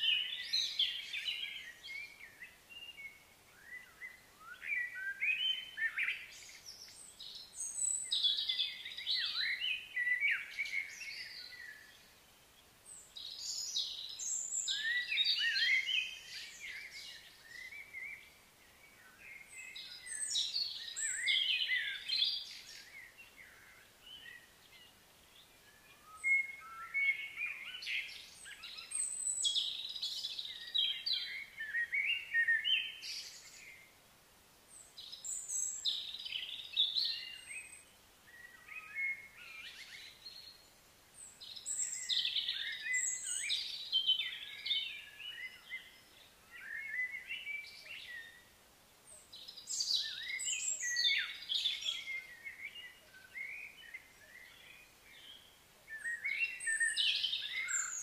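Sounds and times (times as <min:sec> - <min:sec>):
faint outdoor background noise: 0:00.0 - 0:58.0
songbirds chirping and warbling: 0:00.0 - 0:58.0.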